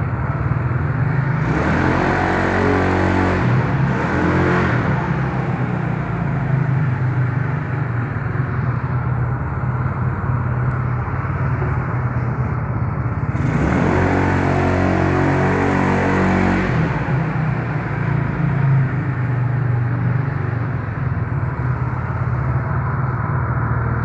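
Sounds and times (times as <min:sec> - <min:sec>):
road rumble: 0:00.0 - 0:24.0
scooter engine running: 0:00.0 - 0:24.0.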